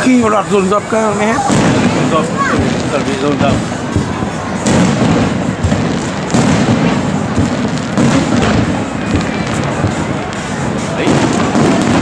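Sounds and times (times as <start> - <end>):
firework rumble and crackle: 0.0 - 12.0
firework shells bursting: 1.3 - 12.0.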